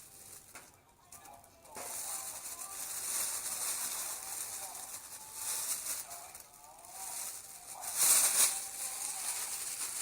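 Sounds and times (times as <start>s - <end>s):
newspaper crackling and rustling: 0.0s - 10.0s.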